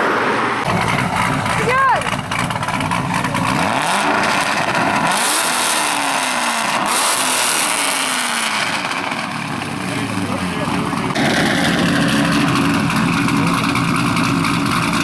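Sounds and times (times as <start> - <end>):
car engine accelerating hard: 0.6 - 15.0.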